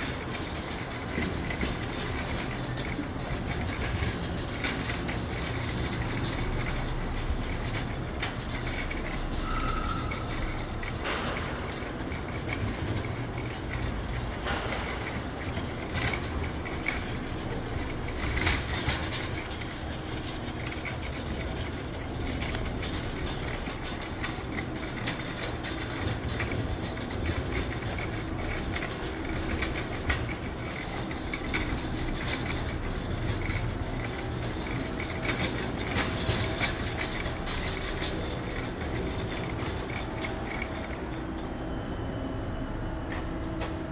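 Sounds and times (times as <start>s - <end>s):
shopping cart rattling along: 0.0s - 41.8s
knocks and clatters: 0.1s - 41.2s.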